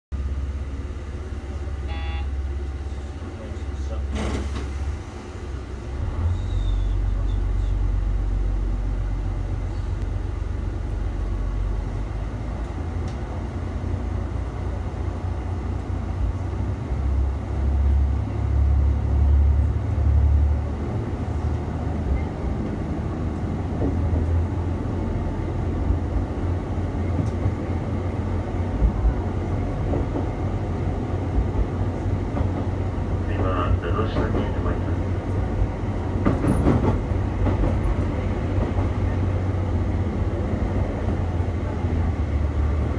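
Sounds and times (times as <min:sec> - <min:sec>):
diesel engine rumble: 0:00.1 - 0:42.9.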